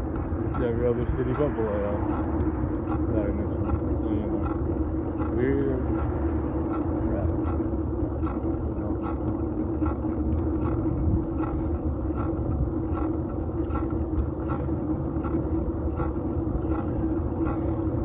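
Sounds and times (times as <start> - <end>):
regular ticking: 0.0 - 18.0
tyres rumbling on road: 0.0 - 18.0.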